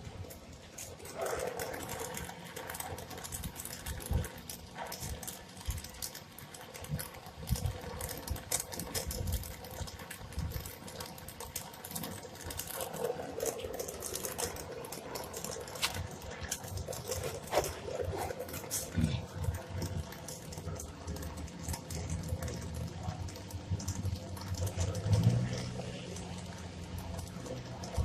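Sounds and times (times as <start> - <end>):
sharp crackles and clicks: 0.0 - 28.0.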